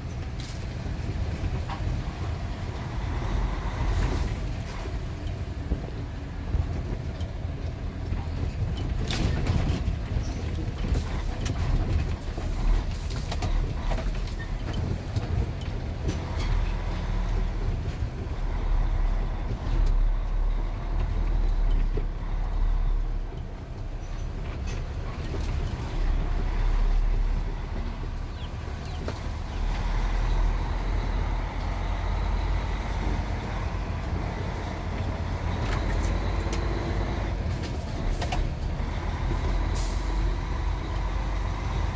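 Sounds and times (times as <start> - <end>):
heavy truck engine rumble: 0.0 - 41.9.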